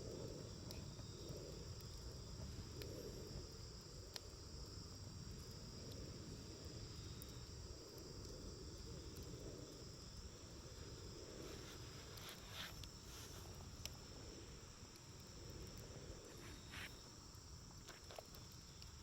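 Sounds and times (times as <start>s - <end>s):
campfire snaps: 0.0s - 19.0s
crickets trilling: 0.0s - 19.0s.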